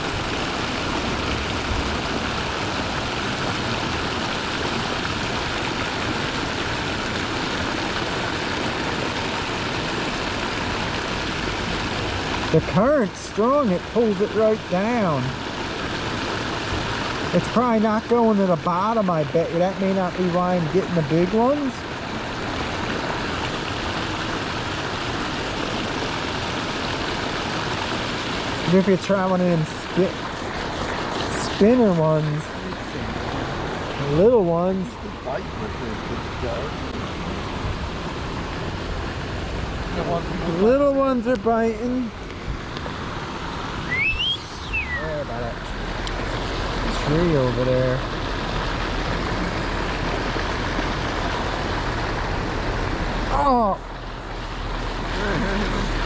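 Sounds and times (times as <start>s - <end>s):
rushing creek water: 0.0s - 56.0s.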